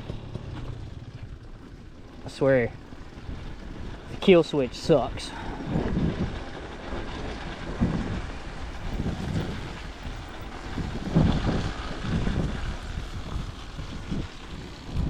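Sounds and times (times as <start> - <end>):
two-stroke engine surging: 0.0 - 15.0
wind buffeting microphone: 2.3 - 15.0.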